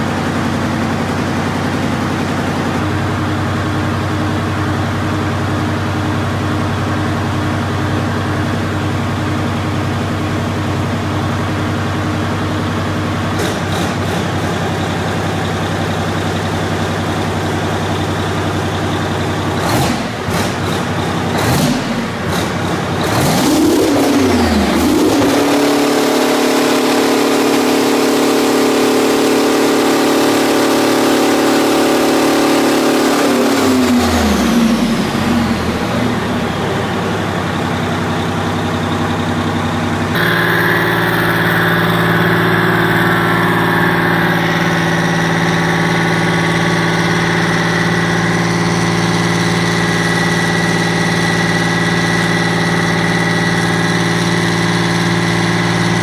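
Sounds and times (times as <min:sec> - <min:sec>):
diesel engine idling with whine: 0:00.0 - 0:56.0
diesel engine revving: 0:00.0 - 0:56.0.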